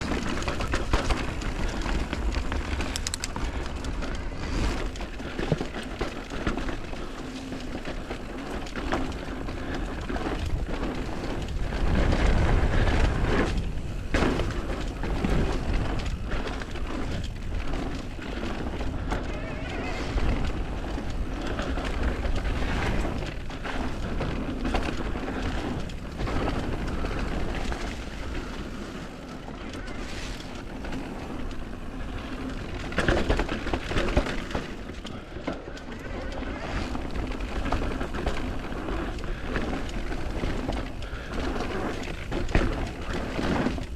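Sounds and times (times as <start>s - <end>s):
bike frame and chain rattling: 0.0s - 43.9s
bike tyre noise: 0.0s - 43.9s
wind rumble on microphone: 0.0s - 43.9s.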